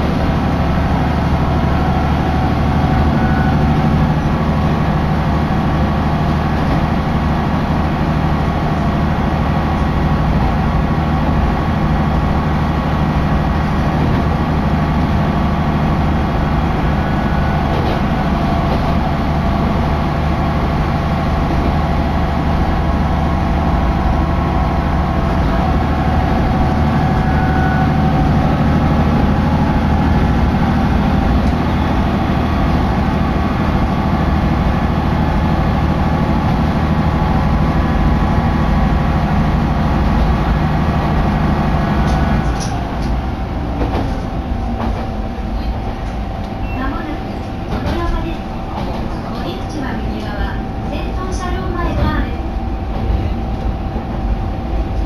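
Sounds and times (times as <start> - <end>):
railcar engine drone: 0.0 - 55.0.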